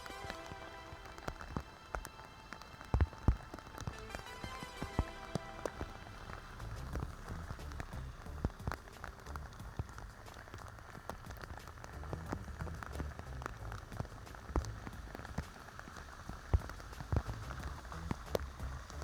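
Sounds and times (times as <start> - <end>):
close raindrop hits: 0.0 - 19.0
rain falling: 0.0 - 19.0.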